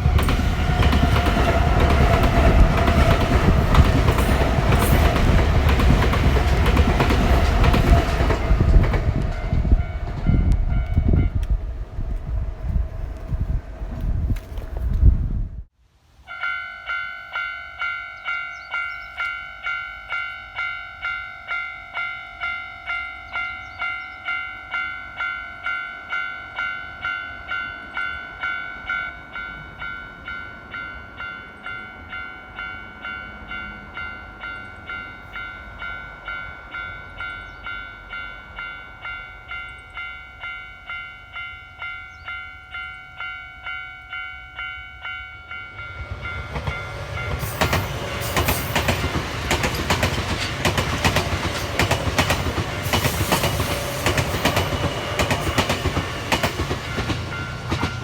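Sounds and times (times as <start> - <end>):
level-crossing warning bell ringing: 0.0 - 11.4, 16.3 - 58.0.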